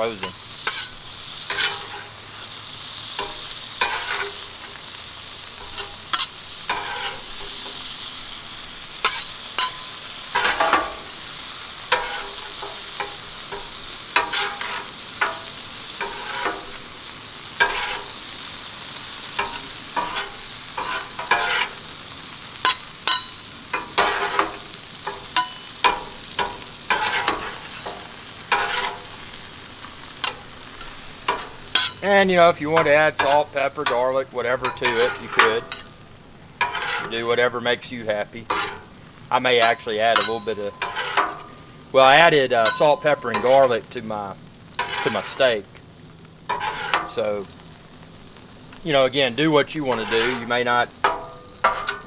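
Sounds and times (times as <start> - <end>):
metal spatula scraping steel: 0.0 - 18.4, 19.2 - 21.8, 22.6 - 29.5, 30.1 - 36.0, 36.6 - 43.9, 44.8 - 45.6, 46.5 - 47.3, 49.6 - 52.0
vegetables sizzling on griddle: 0.0 - 52.0.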